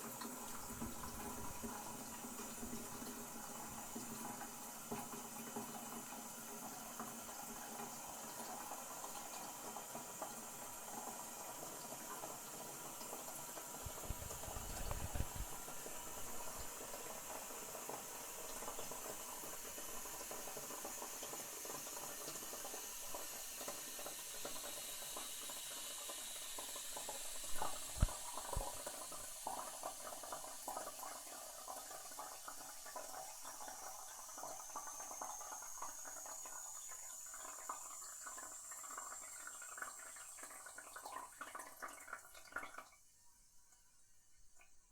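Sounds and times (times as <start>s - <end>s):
water hissing through fill valve: 0.0s - 43.0s.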